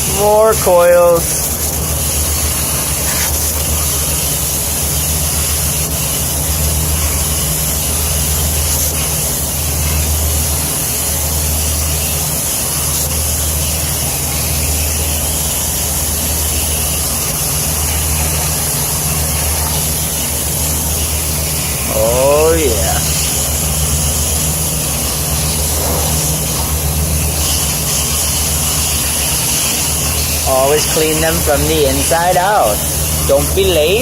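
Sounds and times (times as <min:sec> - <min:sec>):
water spraying onto metal coils: 0:00.0 - 0:34.0.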